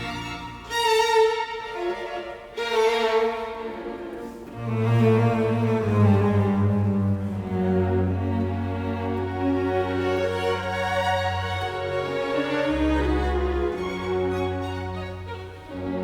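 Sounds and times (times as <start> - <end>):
bowed strings music: 0.0 - 16.0
low cello line: 0.0 - 16.0.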